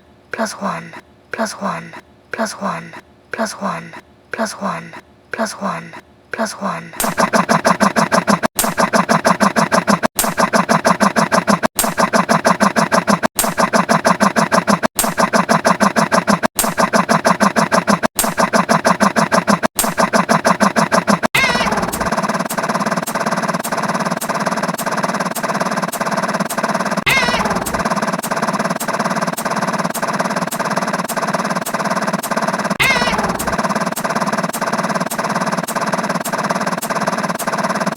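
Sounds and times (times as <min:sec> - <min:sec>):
fast-pulsing buzzy sound effect: 0:00.4 - 0:37.9
steady buzzing with quick ticking: 0:00.4 - 0:37.9.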